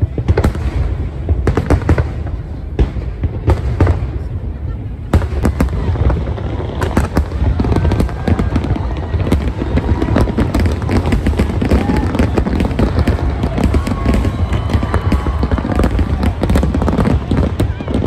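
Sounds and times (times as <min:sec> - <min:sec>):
fireworks cracks and bangs: 0:00.0 - 0:18.0.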